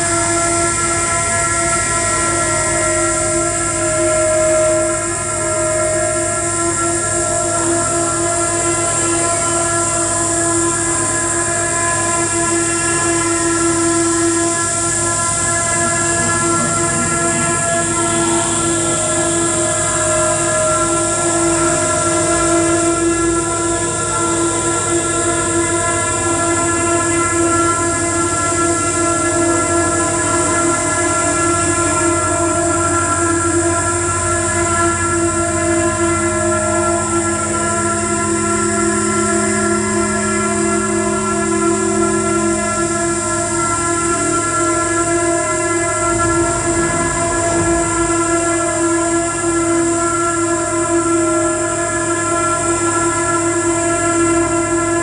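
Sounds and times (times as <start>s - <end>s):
electronic noise drone: 0.0s - 55.0s.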